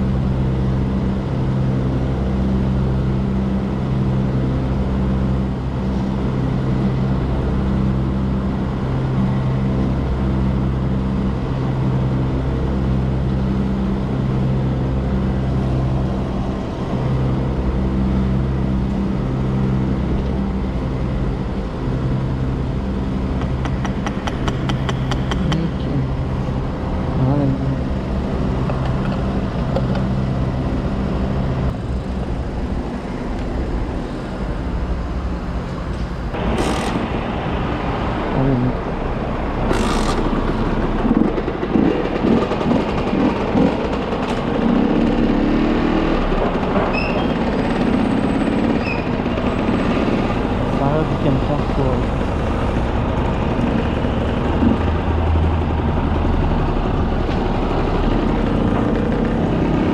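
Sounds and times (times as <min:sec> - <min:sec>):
motorcycle engine running: 0:00.0 - 0:34.0, 0:36.3 - 0:59.9
road noise: 0:00.0 - 0:59.9.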